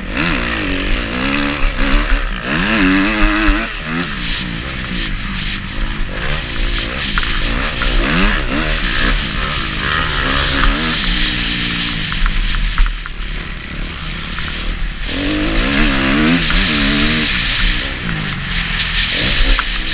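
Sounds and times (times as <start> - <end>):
motocross bike engine revving: 0.0 - 19.9.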